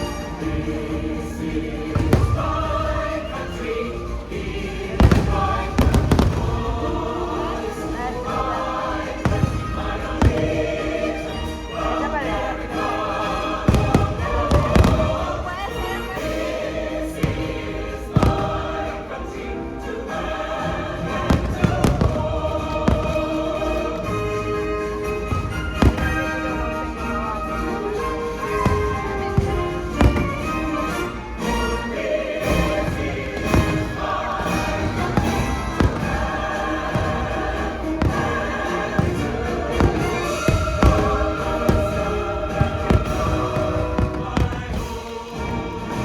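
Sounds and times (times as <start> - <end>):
choral music: 0.0 - 46.0
fireworks booming: 1.3 - 12.0, 13.3 - 19.1, 21.0 - 46.0.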